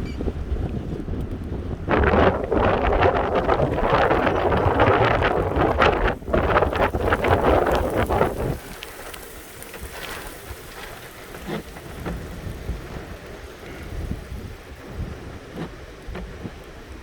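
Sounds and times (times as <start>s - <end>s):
wind buffeting microphone: 0.0s - 17.0s
heavy rain pattering: 1.2s - 17.0s.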